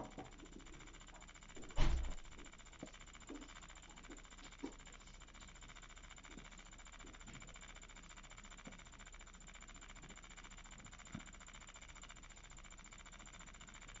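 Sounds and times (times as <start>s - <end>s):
small motor whirring: 0.2s - 14.0s.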